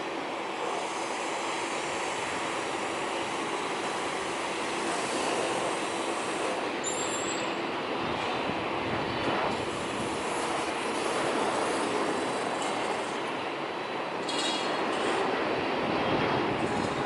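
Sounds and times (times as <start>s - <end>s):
jet engine rush: 0.0s - 17.0s.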